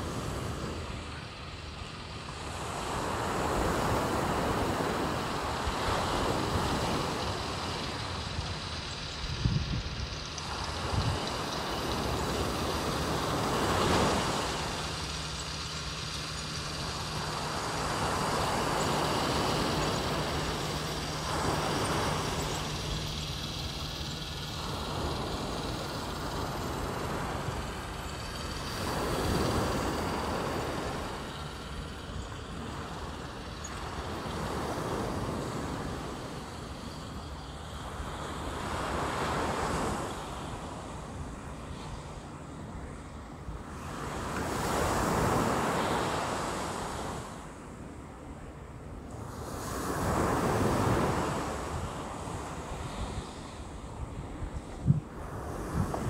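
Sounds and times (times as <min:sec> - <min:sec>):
ocean surf breaking on beach: 0:00.0 - 0:48.1, 0:49.1 - 0:56.0.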